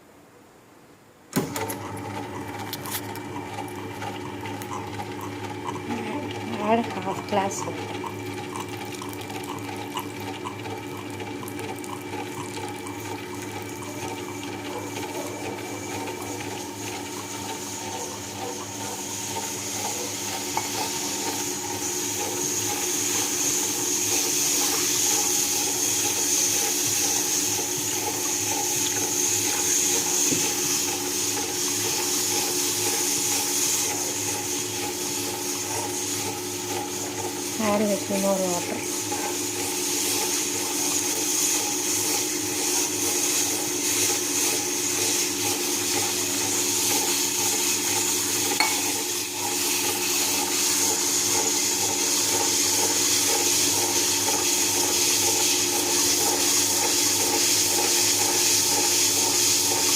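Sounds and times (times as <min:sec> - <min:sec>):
mixer grinder running: 0:01.3 - 0:59.9.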